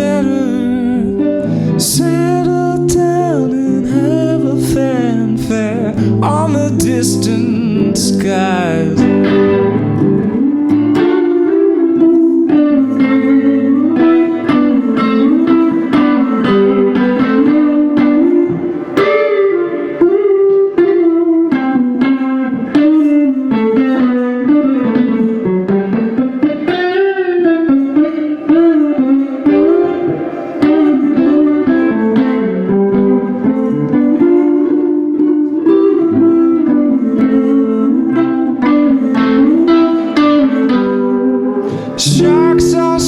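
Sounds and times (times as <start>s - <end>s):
picked guitar melody: 0.0s - 43.0s.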